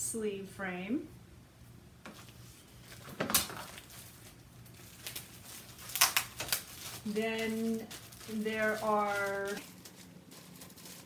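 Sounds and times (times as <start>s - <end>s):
plastic packaging rustling: 2.1s - 11.0s.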